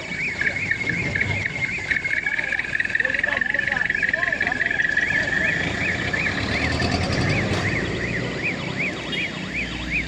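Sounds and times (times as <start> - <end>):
warbling electronic alarm: 0.0 - 10.0.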